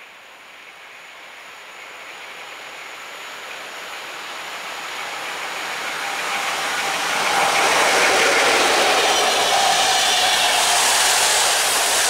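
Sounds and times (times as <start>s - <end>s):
train approaching: 0.5s - 12.0s.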